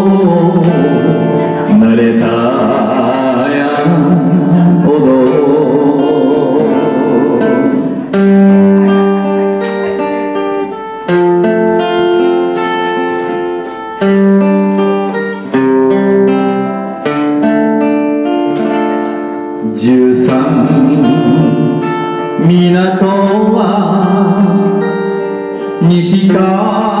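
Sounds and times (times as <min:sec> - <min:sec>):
guitar playing melody: 0:00.0 - 0:27.0
instrumental backing music: 0:00.0 - 0:27.0.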